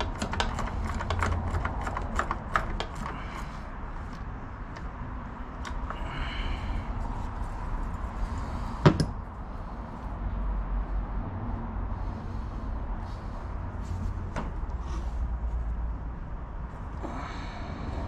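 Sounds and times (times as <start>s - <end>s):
low steady rumble: 3.1s - 18.0s.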